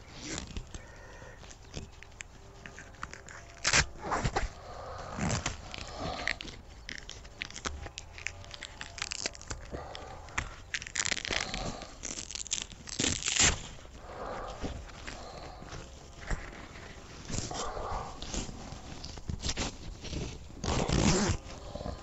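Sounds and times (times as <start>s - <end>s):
fabric rustling and crinkling: 0.0s - 22.0s.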